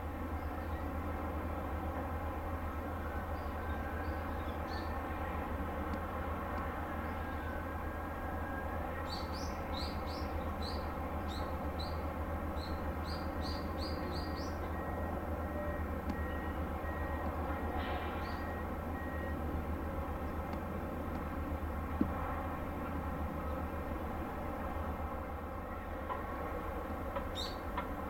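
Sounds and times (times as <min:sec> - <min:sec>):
low ship machinery drone: 0:00.0 - 0:28.0.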